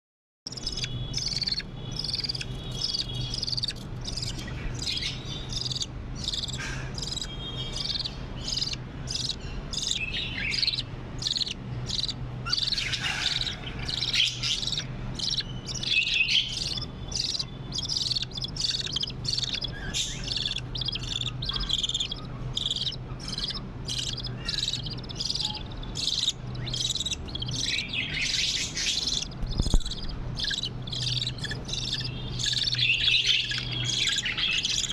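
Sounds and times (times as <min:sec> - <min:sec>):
budgerigars chirping: 0:00.5 - 0:34.9
steady low hum: 0:00.5 - 0:34.9.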